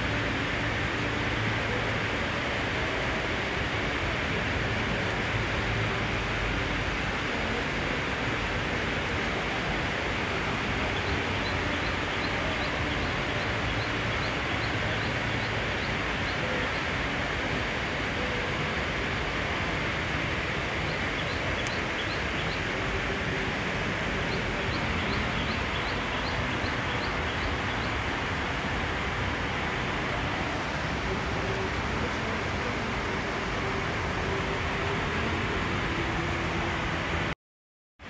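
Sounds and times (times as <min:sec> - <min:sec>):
heavy rain hissing: 0:00.0 - 0:37.4.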